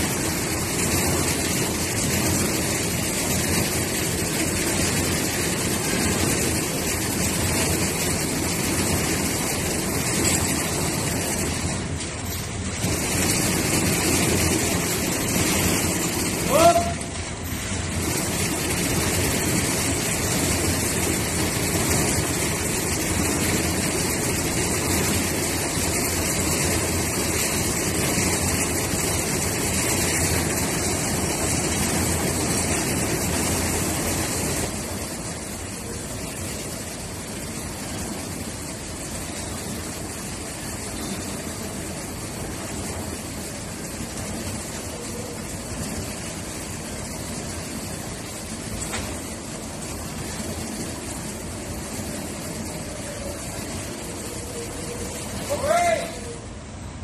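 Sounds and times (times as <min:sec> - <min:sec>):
truck engine running: 0:00.0 - 0:56.4.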